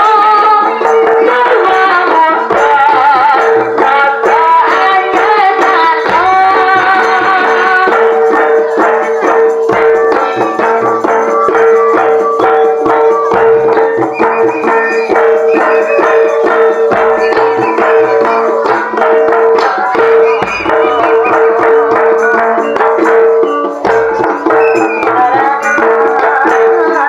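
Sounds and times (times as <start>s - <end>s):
drums: 0.0s - 27.0s
rattling percussion: 0.0s - 27.0s
wavering melody: 0.0s - 27.0s.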